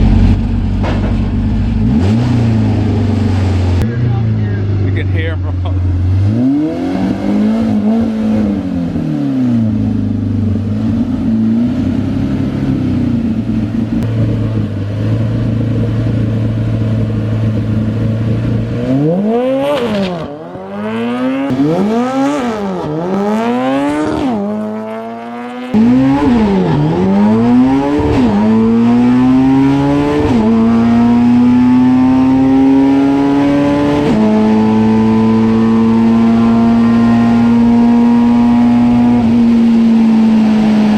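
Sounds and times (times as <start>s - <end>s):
racing truck engine revving: 0.0s - 12.8s, 17.0s - 40.9s.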